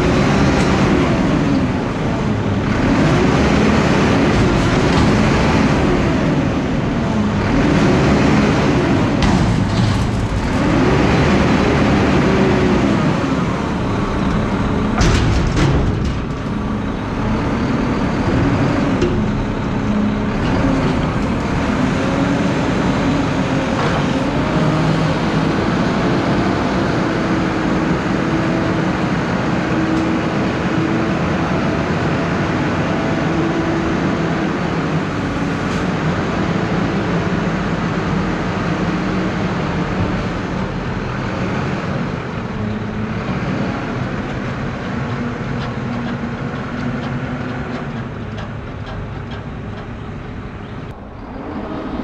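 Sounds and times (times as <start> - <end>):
garbage truck diesel engine reversing: 0.0 - 52.0.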